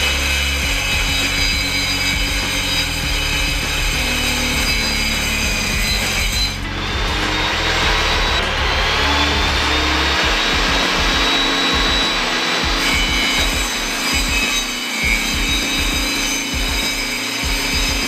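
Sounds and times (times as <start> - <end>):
high whine: 0.0 - 18.0
table saw blade spinning: 0.0 - 18.0.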